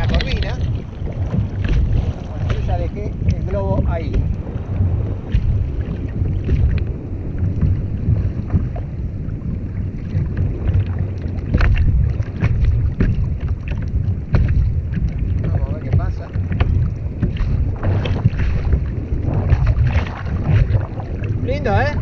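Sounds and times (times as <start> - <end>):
water splashing against kayak: 0.0 - 22.0
wind buffeting microphone: 0.0 - 22.0.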